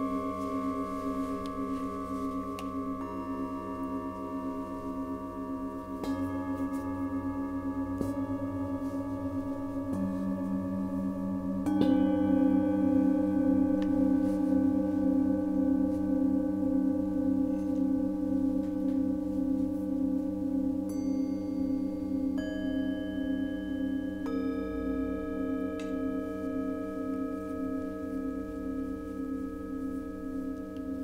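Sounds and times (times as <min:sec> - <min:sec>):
metal singing bowls ringing: 0:00.0 - 0:31.0.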